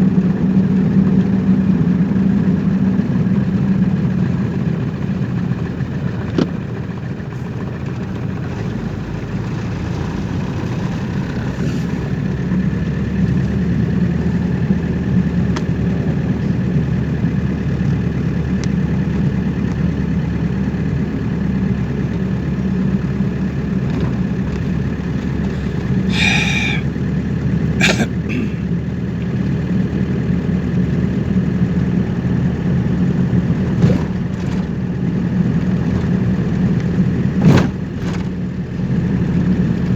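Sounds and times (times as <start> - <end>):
car engine and road noise: 0.0 - 27.8, 28.5 - 39.9.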